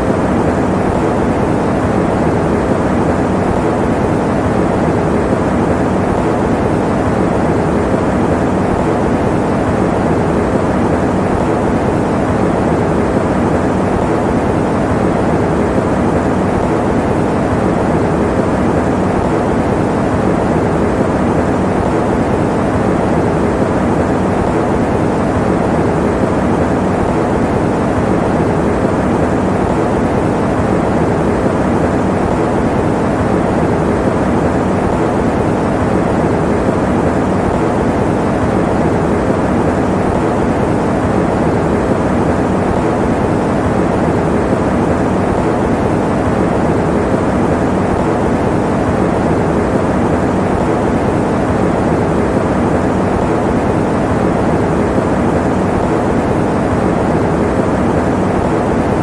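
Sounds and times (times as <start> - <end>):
electric fan whooshing: 0.0 - 59.0.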